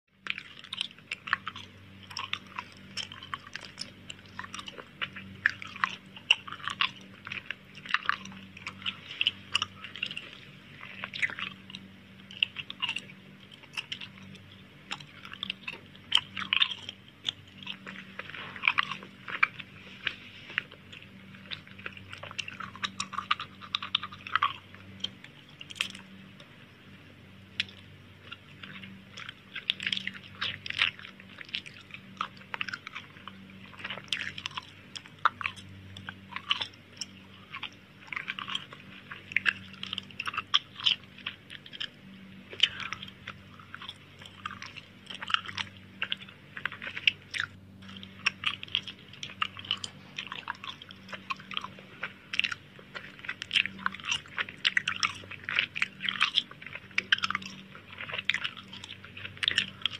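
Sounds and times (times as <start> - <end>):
chewing crisp food: 0.1 - 59.9
faint low hum: 0.1 - 59.9.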